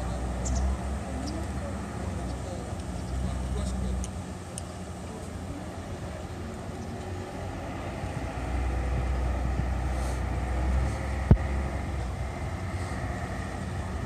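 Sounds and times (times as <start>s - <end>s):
ship engine rumble: 0.0s - 14.0s.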